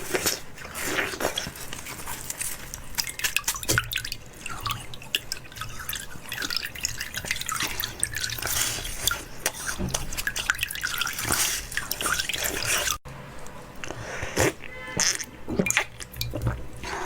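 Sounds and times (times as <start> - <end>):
water splashing and dripping: 0.0 - 13.0, 15.5 - 16.9.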